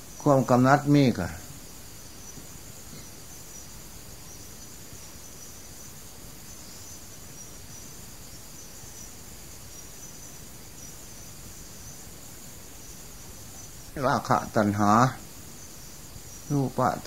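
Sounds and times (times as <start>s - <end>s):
background hiss: 0.0s - 17.0s
insects chirring: 0.0s - 17.0s.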